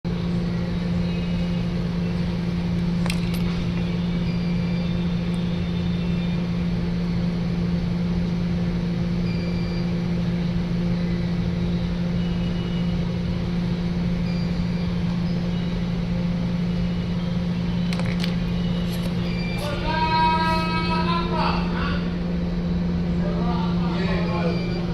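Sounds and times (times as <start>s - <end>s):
motor electrical hum: 0.0s - 24.9s.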